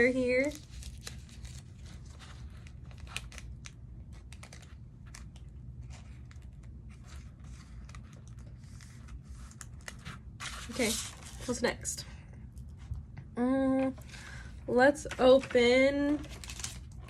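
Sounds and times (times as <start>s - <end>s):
low steady hum: 0.0s - 17.0s
soft plastic crinkles: 0.1s - 13.0s, 13.9s - 17.0s.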